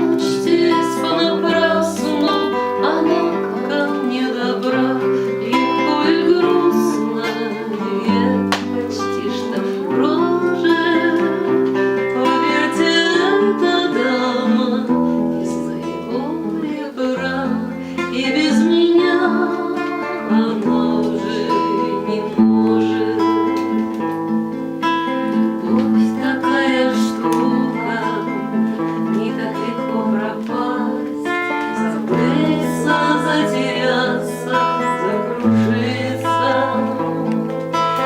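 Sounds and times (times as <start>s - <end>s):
acoustic guitar: 0.0s - 38.0s
woman singing: 0.0s - 38.0s.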